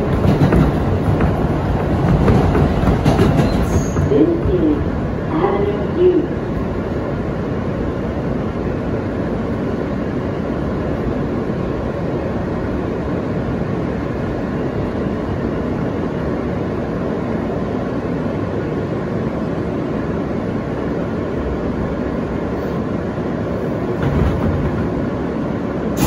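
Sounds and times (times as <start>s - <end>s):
subway wheels rumbling on rail: 0.0s - 26.0s.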